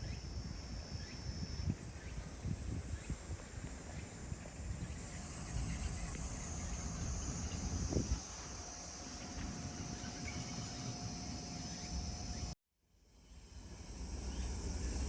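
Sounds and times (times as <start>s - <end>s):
insects buzzing: 0.0s - 12.6s, 13.3s - 15.0s
faint steady hum: 0.0s - 15.0s.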